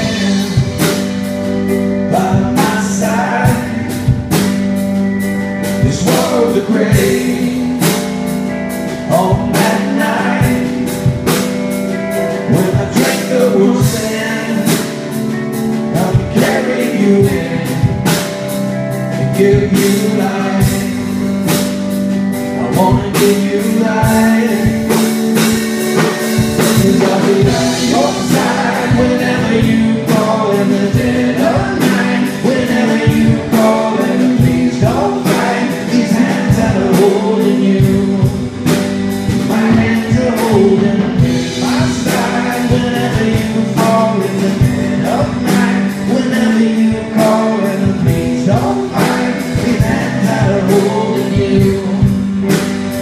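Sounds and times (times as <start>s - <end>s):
person singing: 0.0s - 4.6s, 5.6s - 21.7s, 22.3s - 53.0s
acoustic guitar: 0.0s - 53.0s
drum kit beat: 0.0s - 53.0s
keyboard: 0.0s - 53.0s.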